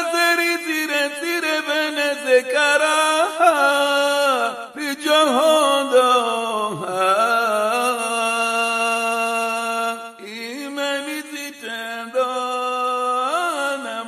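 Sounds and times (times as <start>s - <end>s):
person singing unaccompanied: 0.0s - 14.0s.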